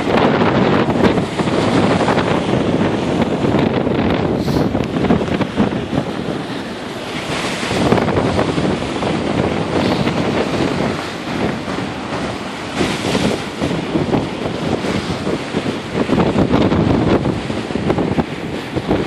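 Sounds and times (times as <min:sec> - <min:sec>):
waves crashing: 0:00.0 - 0:19.0
wind buffeting microphone: 0:00.0 - 0:19.0.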